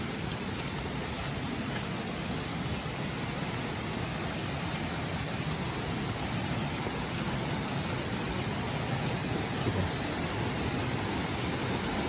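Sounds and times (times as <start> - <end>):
stream and waterfall rushing: 0.0 - 12.0.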